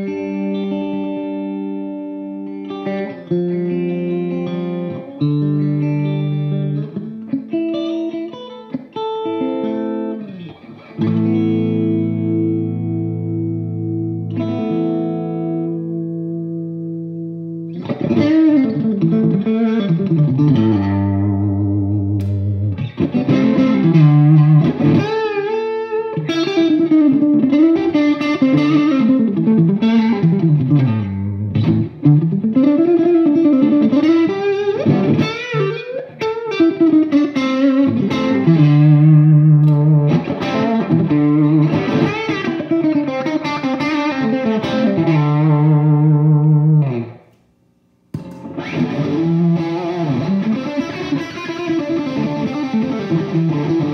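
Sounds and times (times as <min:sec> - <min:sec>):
electric guitar lead with string bends: 0:00.0 - 0:47.2, 0:48.2 - 0:53.9
electric guitar chord ringing: 0:00.0 - 0:47.3, 0:48.1 - 0:53.9.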